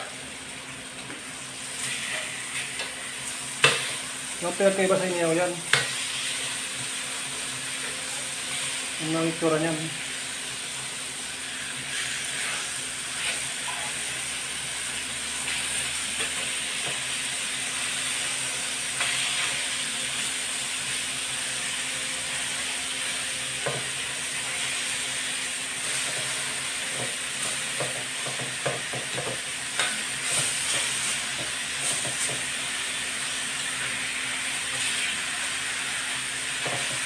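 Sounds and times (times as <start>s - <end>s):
pork sizzling in a wok: 0.0s - 37.0s.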